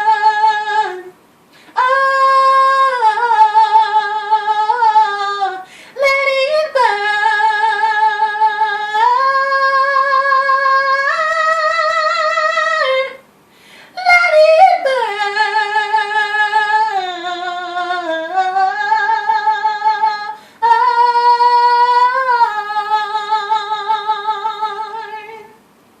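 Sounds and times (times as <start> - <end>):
woman singing unaccompanied: 0.0 - 25.6.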